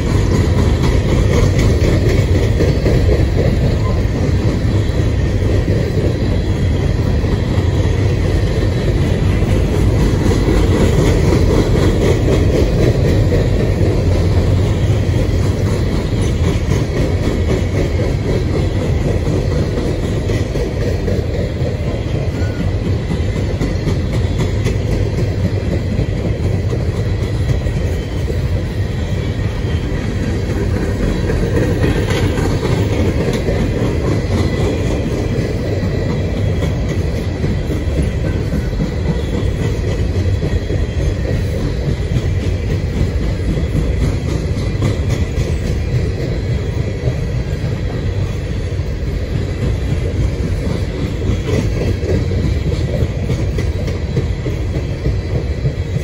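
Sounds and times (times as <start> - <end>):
freight train rumble: 0.0 - 56.0
wheels ticking over rail joints: 0.0 - 56.0.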